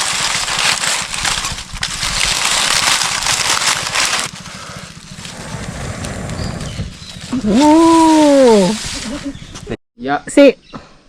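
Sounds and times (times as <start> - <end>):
wooden sticks rubbing together: 0.0 - 9.7.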